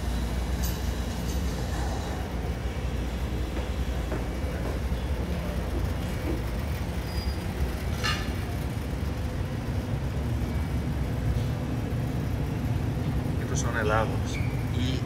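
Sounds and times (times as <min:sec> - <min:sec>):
dining room background rumble: 0:00.0 - 0:15.0.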